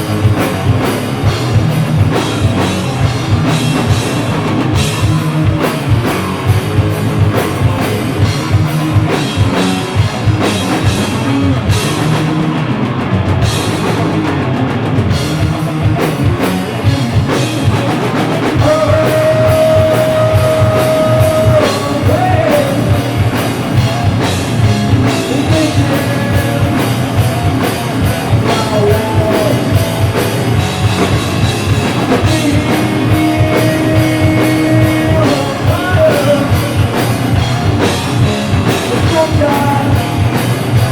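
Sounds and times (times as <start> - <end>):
metal band playing loud rock: 0.0 - 40.9
pounding drum kit: 0.0 - 40.9.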